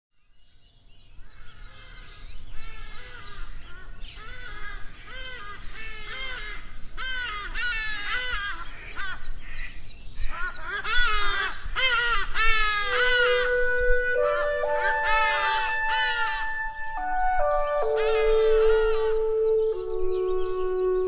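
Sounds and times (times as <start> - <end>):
flock of birds harsh calls: 1.1 - 21.0.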